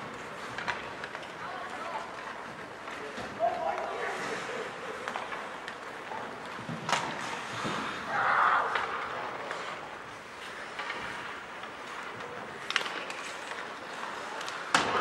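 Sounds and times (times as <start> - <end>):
hockey rink play and crowd: 0.0 - 15.0.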